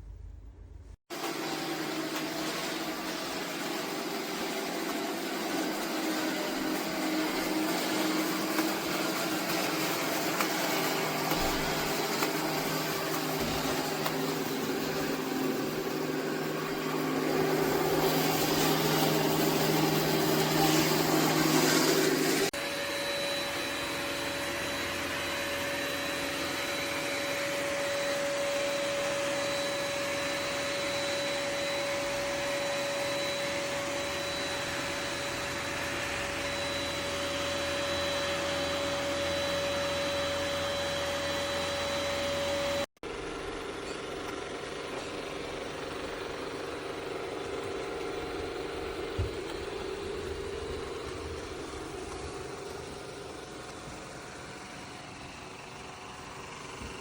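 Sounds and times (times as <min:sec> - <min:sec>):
robot vacuum motor whir: 0:01.2 - 0:42.9, 0:43.5 - 0:57.0.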